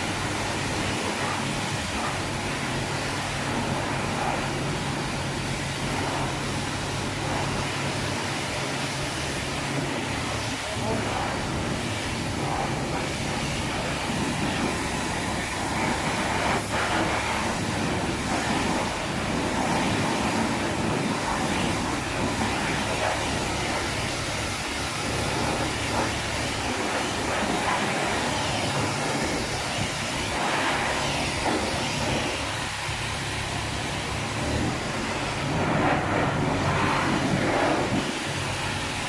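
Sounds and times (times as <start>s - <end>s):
water spraying against car body: 0.0s - 39.0s.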